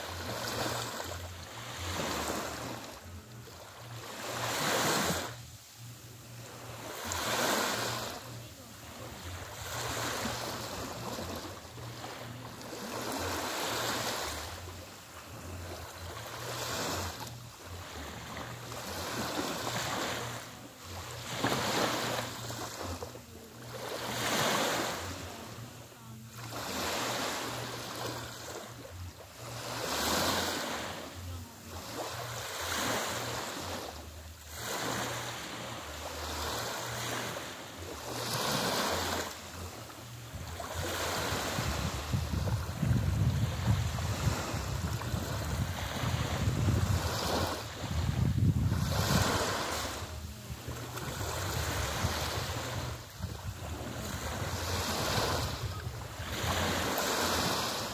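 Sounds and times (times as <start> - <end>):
small waves washing on shore: 0.0 - 57.9.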